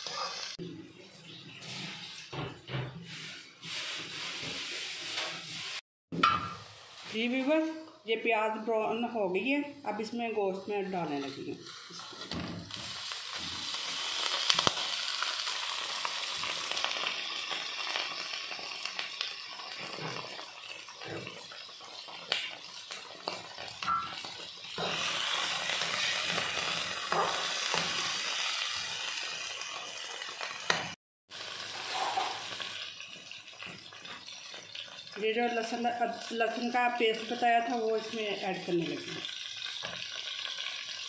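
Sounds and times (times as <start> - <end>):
chicken sizzling in hot oil: 0.0 - 0.6, 3.0 - 41.0.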